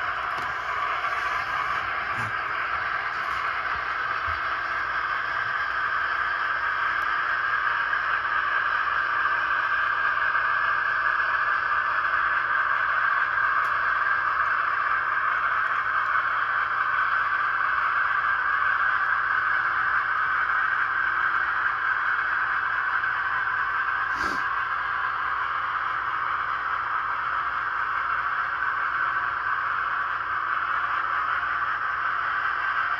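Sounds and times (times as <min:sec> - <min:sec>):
model train whirring on track: 0:00.0 - 0:32.9.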